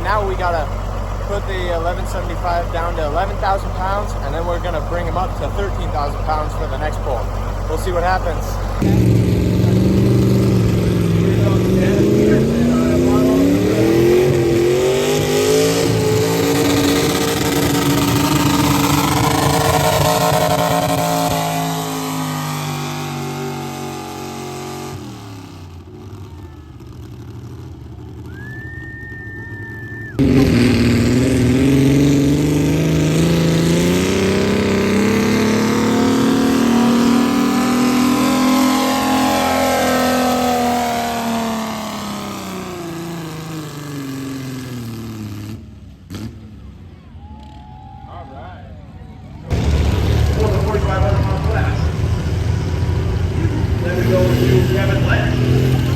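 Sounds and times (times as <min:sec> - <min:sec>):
tractor engines working hard: 0:00.0 - 0:55.9.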